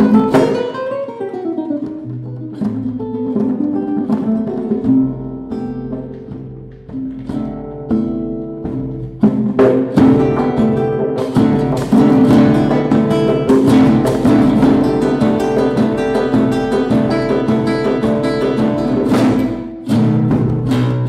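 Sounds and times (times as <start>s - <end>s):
classical guitar playing: 0.0s - 21.0s
hand drum: 0.0s - 21.0s.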